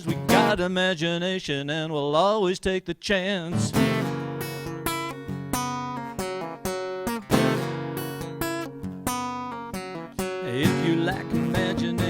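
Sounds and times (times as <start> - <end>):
acoustic guitar strummed chords: 0.0 - 1.2, 3.4 - 12.0.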